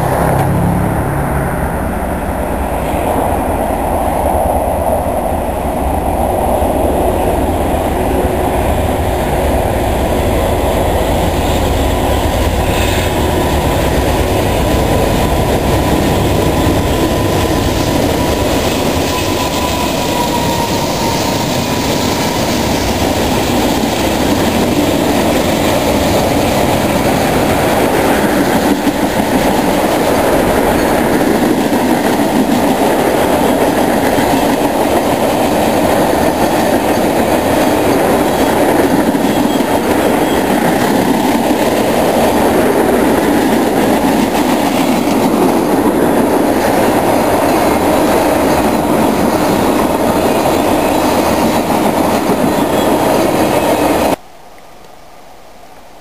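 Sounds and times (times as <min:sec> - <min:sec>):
diesel locomotives passing: 0:00.0 - 0:54.2.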